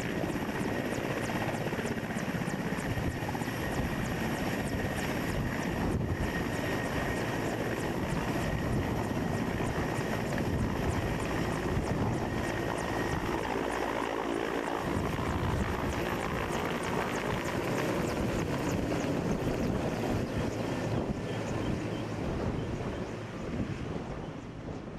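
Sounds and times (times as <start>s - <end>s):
helicopter rotor chop: 0.0s - 24.9s
helicopter turbine whine: 0.0s - 24.9s.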